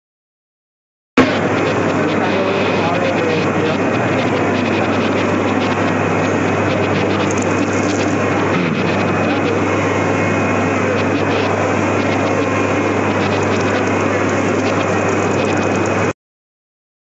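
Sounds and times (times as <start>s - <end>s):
crowd chatter: 1.2s - 16.1s
printer whirring: 1.2s - 16.1s.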